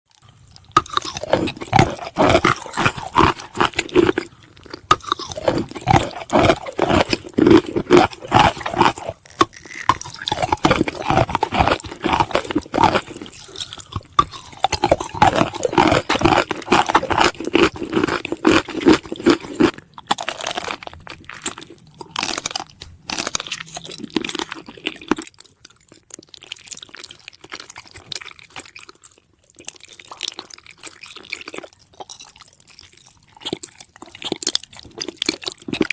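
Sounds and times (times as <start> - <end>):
crunching and crackling: 0.1 - 35.9.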